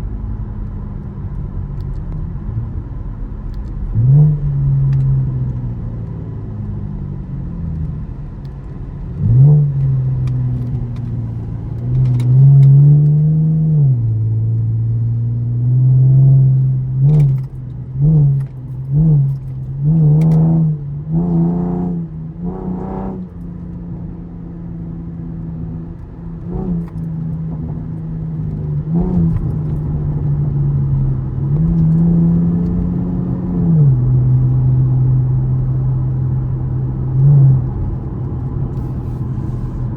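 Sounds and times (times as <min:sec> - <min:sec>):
car engine revving through gears: 0:03.5 - 0:05.9, 0:07.2 - 0:23.7, 0:24.6 - 0:39.9.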